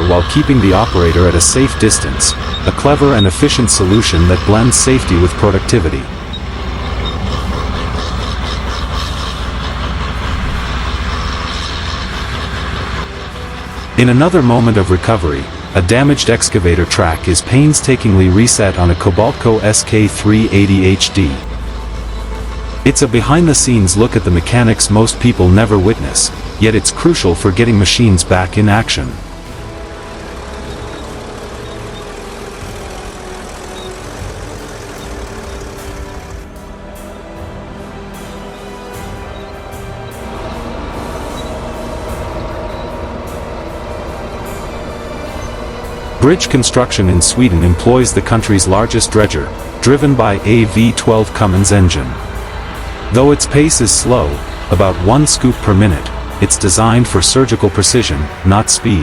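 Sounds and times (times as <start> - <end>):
diesel engine rumbling: 0.0 - 59.0
heavy machinery running: 0.0 - 59.0.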